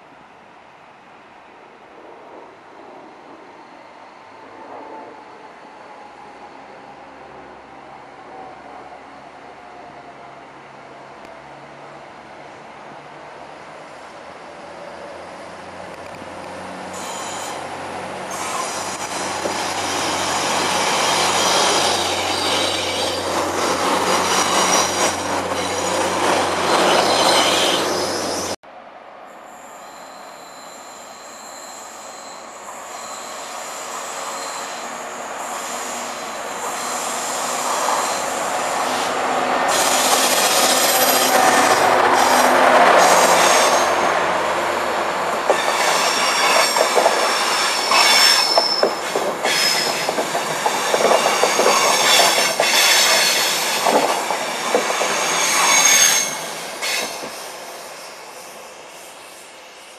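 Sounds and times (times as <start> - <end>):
diesel locomotive passing: 2.4 - 30.6, 32.7 - 59.9
diesel train approaching: 3.2 - 28.6, 29.4 - 59.9.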